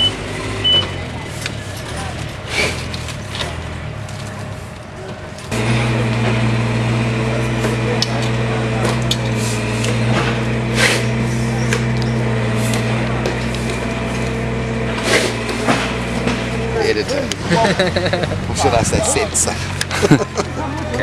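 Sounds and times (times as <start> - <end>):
machine humming loudly: 3.2 - 21.0.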